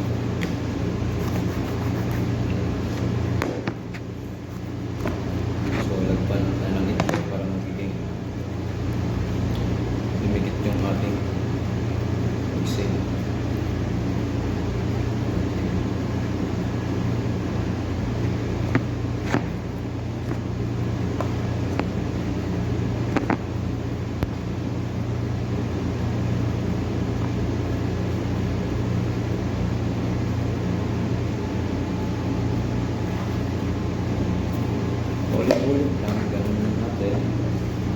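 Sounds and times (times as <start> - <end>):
low machine hum: 0.0 - 37.9.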